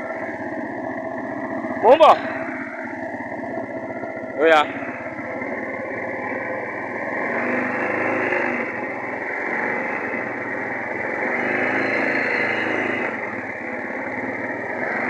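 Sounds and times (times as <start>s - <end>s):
boat engine running hard: 0.0s - 15.0s.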